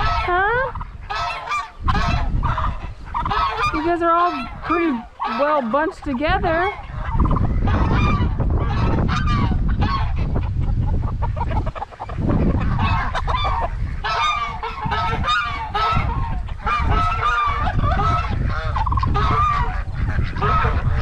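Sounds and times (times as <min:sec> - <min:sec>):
geese honking: 0:00.0 - 0:21.0
wind buffeting microphone: 0:00.0 - 0:21.0.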